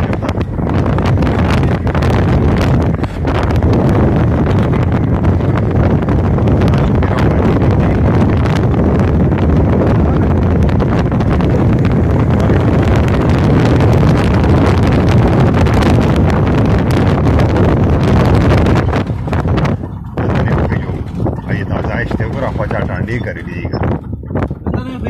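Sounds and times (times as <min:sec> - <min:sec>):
vehicle low rumble: 0:00.0 - 0:25.0
wind buffeting microphone: 0:00.0 - 0:25.0.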